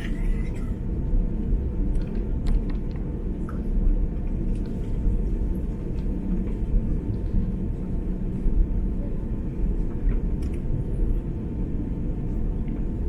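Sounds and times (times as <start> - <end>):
aircraft cabin low rumble: 0.0 - 13.0.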